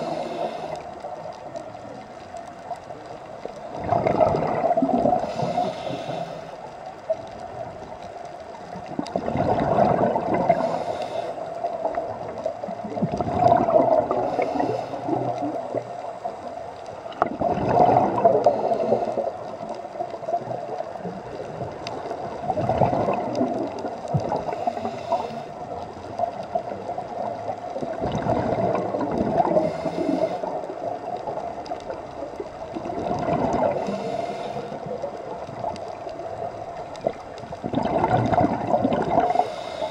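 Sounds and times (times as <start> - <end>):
bubbles gurgling underwater: 3.0 - 6.1, 8.6 - 10.9, 11.5 - 39.9.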